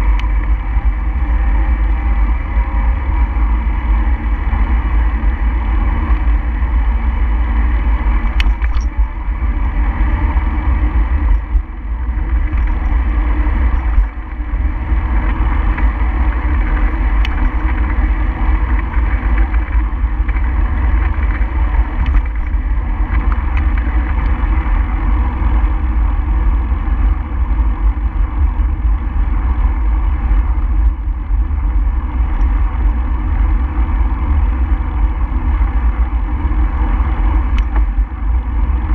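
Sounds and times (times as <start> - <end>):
road noise: 0.0 - 38.9
wind buffeting microphone: 0.0 - 38.9.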